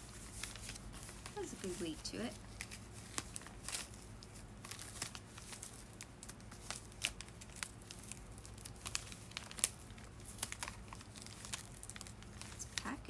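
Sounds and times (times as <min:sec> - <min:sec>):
packing paper crinkling and tearing: 0:00.0 - 0:13.0.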